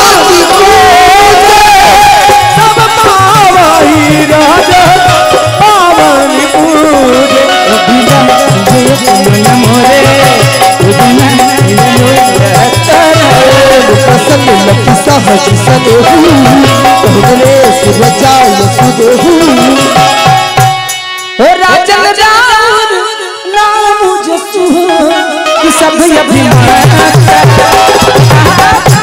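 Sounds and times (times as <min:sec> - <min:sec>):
dholak drum rhythm: 0:00.0 - 0:29.0
harmonium: 0:00.0 - 0:29.0
man singing devotional song: 0:00.0 - 0:29.0.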